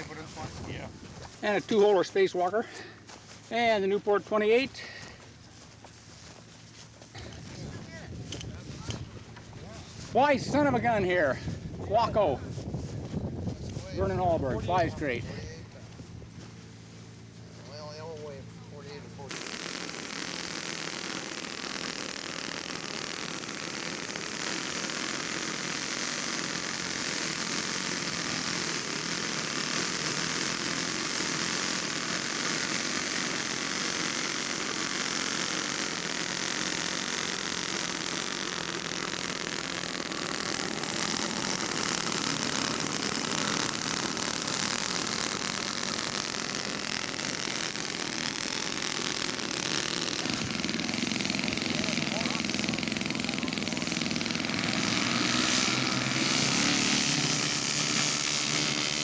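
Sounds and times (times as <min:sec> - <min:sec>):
model airplane engine whine: 0:00.0 - 0:59.0.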